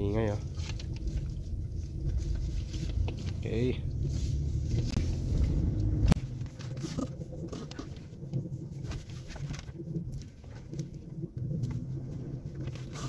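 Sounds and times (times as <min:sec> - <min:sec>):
drivetrain hum and rubbing noise: 0:00.0 - 0:13.0
faint low rumble with ticks: 0:00.0 - 0:13.0.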